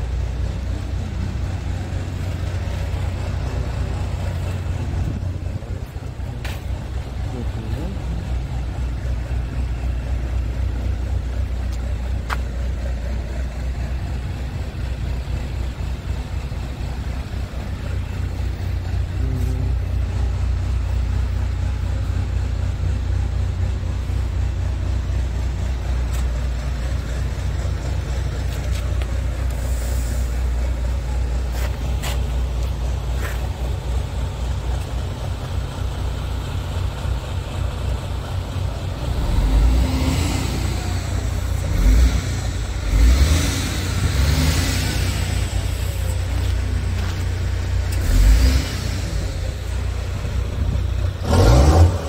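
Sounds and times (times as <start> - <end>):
diesel truck engine idling: 0.0 - 52.0.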